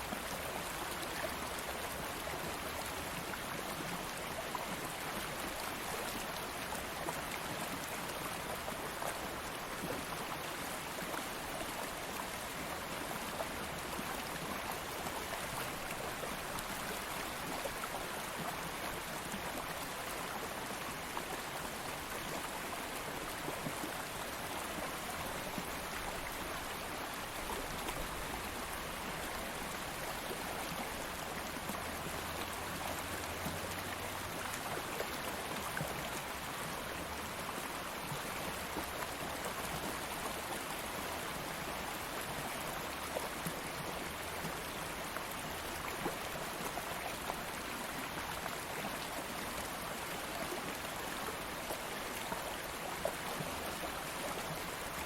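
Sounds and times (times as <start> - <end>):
stream water flowing: 0.0 - 55.0.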